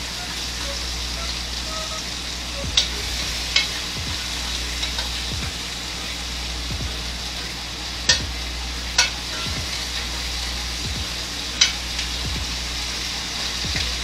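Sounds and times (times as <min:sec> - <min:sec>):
steak sizzling in a pan: 0:00.1 - 0:14.0.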